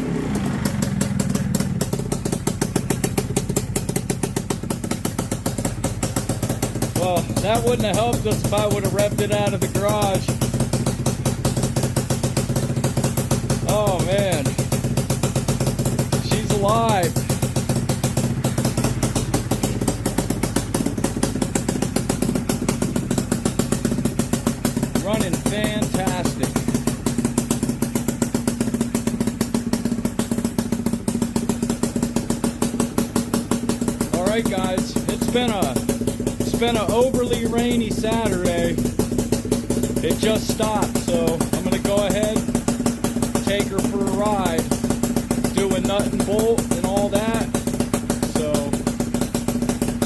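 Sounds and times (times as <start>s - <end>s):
two-stroke engine running: 0.0s - 50.0s.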